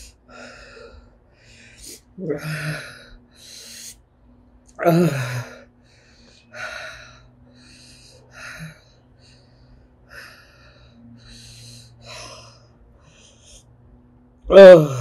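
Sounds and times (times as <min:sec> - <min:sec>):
woman breathing hard: 0:00.0 - 0:04.1, 0:05.0 - 0:14.0.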